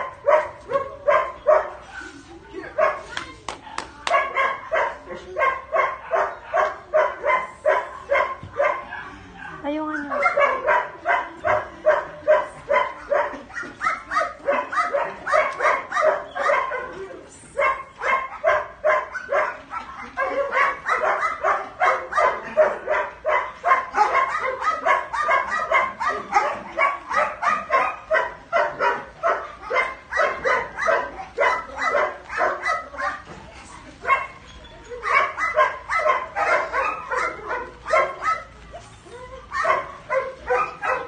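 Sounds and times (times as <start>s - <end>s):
dog barking: 0.0s - 2.2s, 2.8s - 33.3s, 34.0s - 34.4s, 35.0s - 38.5s, 39.5s - 41.0s.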